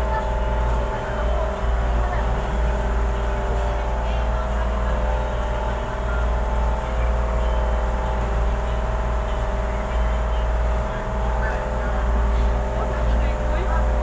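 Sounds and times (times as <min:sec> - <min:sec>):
ferry engine droning: 0:00.0 - 0:14.0.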